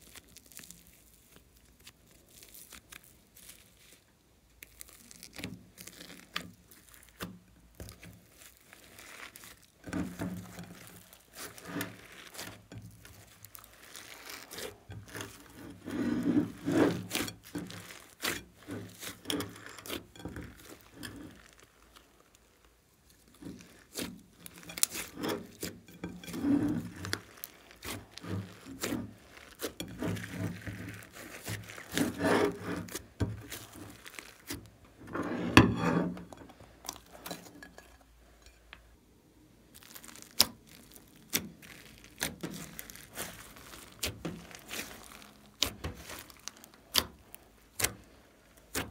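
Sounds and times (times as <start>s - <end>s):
slime squelching: 0.0s - 38.5s, 39.6s - 48.9s.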